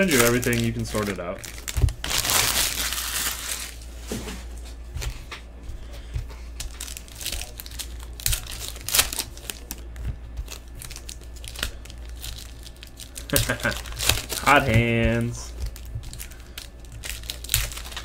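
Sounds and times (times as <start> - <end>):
foil wrappers crinkling and tearing: 0.0 - 4.4, 5.9 - 18.0.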